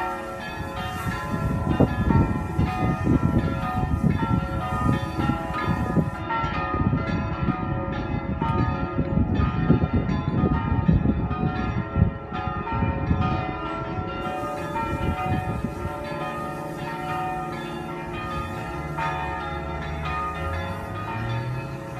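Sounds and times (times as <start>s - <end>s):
carillon bells ringing a tune: 0.0s - 21.9s.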